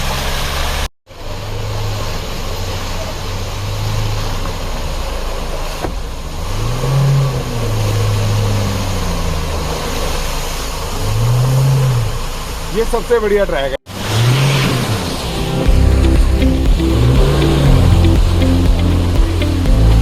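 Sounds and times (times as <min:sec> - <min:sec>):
car engine revving: 0:00.0 - 0:12.7, 0:13.9 - 0:20.0.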